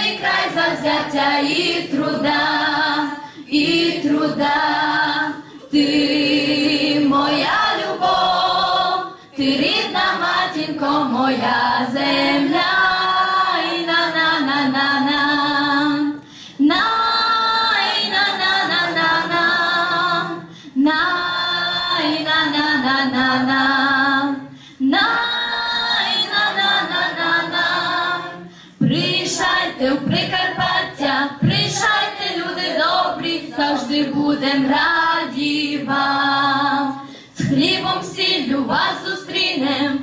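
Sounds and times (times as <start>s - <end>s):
mixed choir singing unaccompanied: 0.0s - 40.0s.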